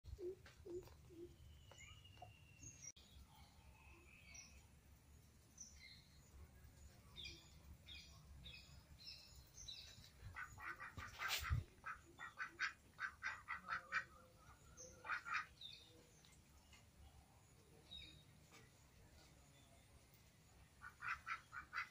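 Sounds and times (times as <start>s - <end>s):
birds chirping: 0.1s - 21.9s.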